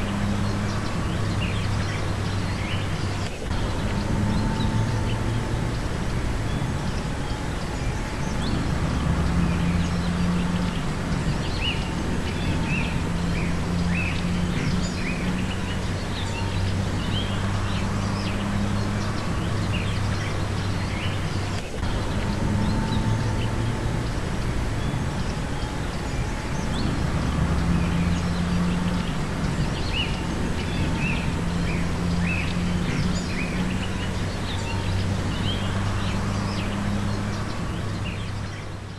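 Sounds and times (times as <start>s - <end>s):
low hum: 0.0s - 38.9s
small birds chirping: 0.0s - 38.9s.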